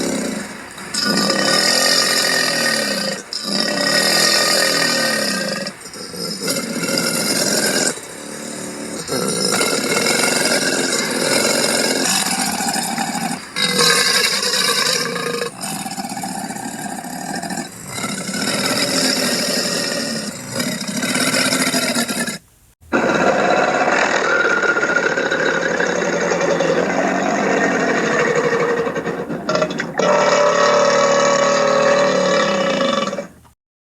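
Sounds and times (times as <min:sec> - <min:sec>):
cartoon alligator growls: 0:00.0 - 0:33.5.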